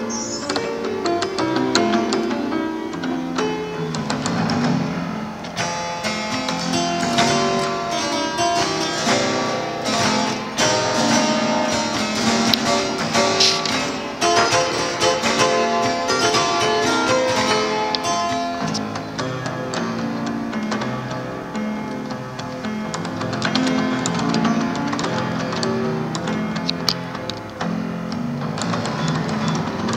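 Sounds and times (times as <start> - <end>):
harpsichord playing: 0.0 - 29.9.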